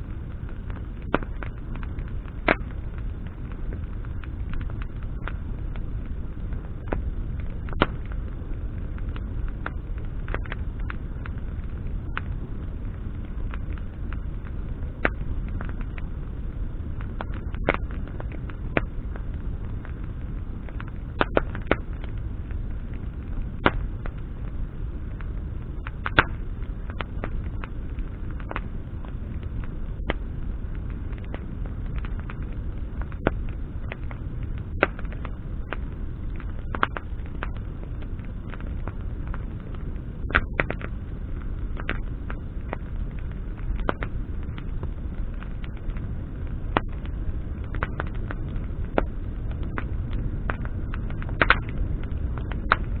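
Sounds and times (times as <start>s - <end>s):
branches crackling and popping: 0.0s - 53.0s
fire low rumble: 0.0s - 53.0s.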